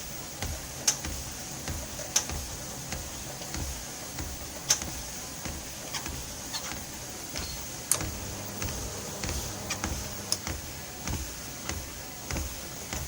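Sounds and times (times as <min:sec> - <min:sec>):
treadmill creaking and knocking: 0:00.0 - 0:13.0.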